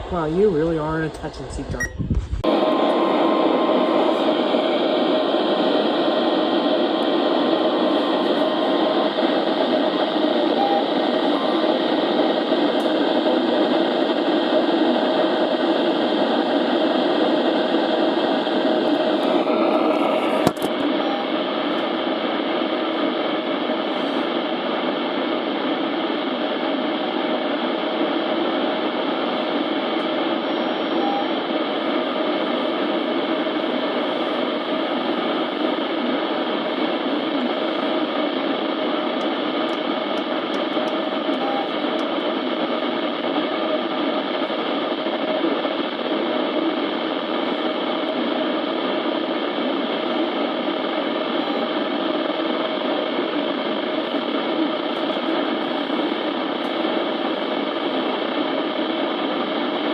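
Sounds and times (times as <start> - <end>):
radio speaker static hiss: 0.0 - 59.9.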